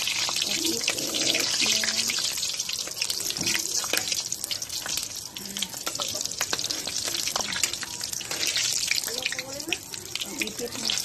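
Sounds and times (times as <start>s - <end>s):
deep-frying in hot oil: 0.0s - 11.0s.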